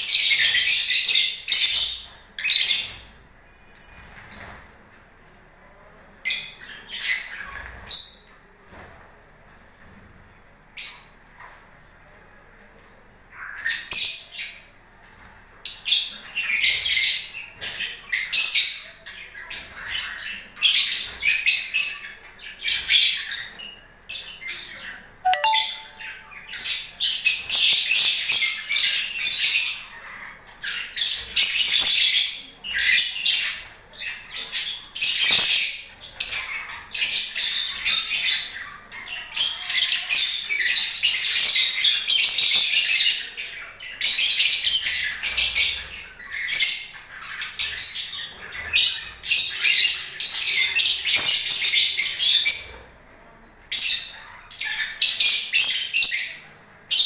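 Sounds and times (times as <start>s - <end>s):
lovebirds chirping and squawking: 0.0s - 5.0s, 6.3s - 8.4s, 13.4s - 57.0s.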